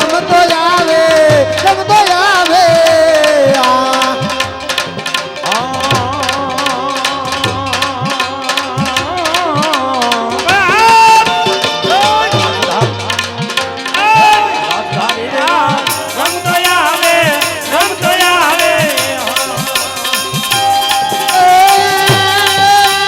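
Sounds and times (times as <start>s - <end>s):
hand drum fast rhythm: 0.0s - 23.0s.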